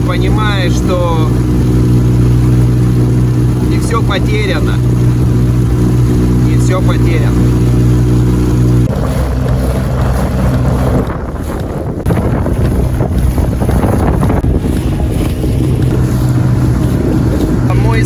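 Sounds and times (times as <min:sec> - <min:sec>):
motorboat engine humming: 0:00.0 - 0:18.0
rushing water: 0:00.0 - 0:18.0
wind buffeting microphone: 0:00.0 - 0:18.0.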